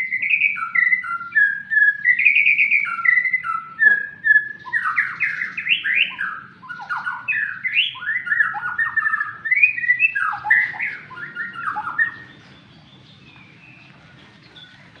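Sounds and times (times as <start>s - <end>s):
bird singing whistled notes: 0.0s - 15.0s.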